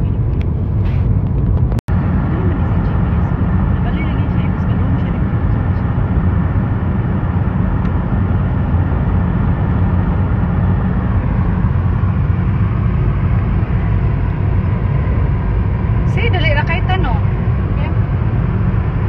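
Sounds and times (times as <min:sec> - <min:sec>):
road and wind noise in car: 0:00.0 - 0:19.0.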